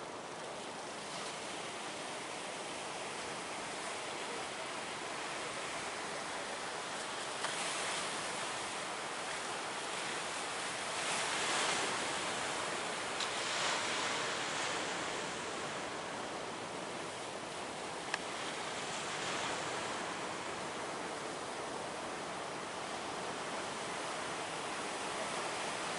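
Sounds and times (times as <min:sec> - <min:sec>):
ocean waves breaking: 0:00.1 - 0:25.9.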